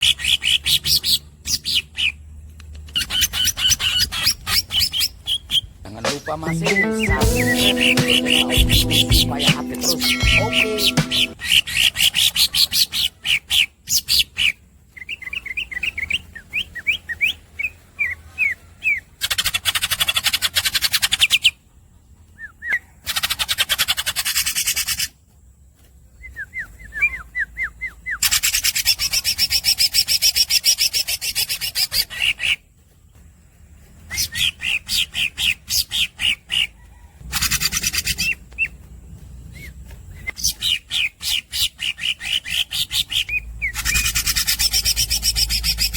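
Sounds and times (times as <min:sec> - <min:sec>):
bird singing chirps and trills: 0:03.0 - 0:21.5, 0:26.2 - 0:45.9.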